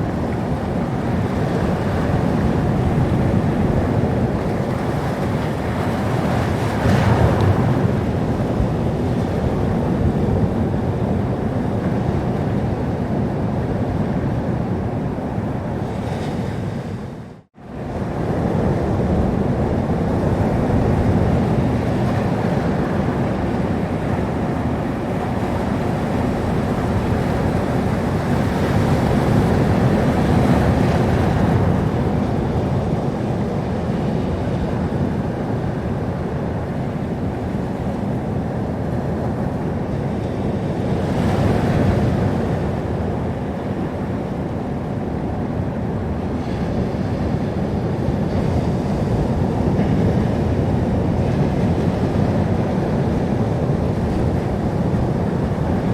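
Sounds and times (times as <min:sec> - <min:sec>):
waves breaking on shore: 0:00.0 - 0:55.9.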